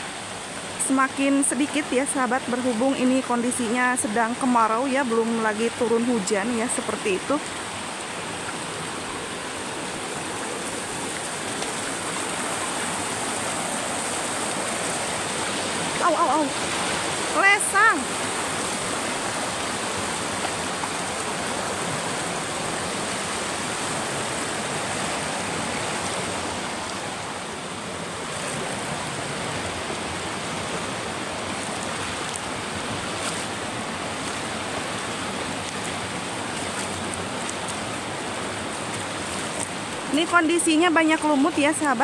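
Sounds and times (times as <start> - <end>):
water rushing over stones: 0.0 - 42.0.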